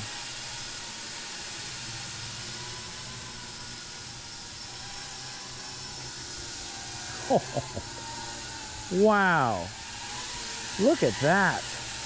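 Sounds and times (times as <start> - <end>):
drone propellers whirring: 0.0 - 12.0.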